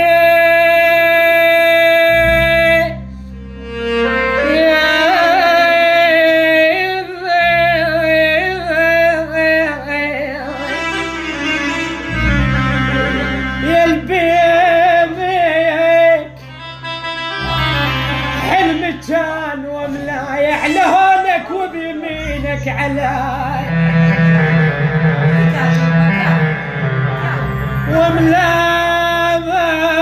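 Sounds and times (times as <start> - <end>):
ornamented lament melody: 0.0 - 30.0
steady low drone: 2.2 - 29.5.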